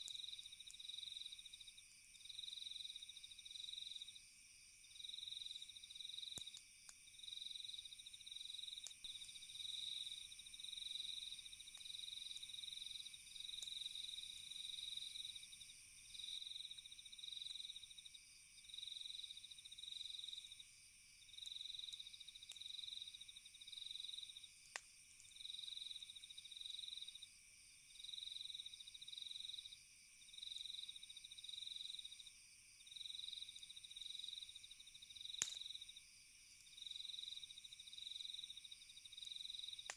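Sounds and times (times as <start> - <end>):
campfire crackling: 0.0 - 2.8, 4.8 - 27.6, 31.6 - 39.9
crickets chirping: 0.0 - 39.9.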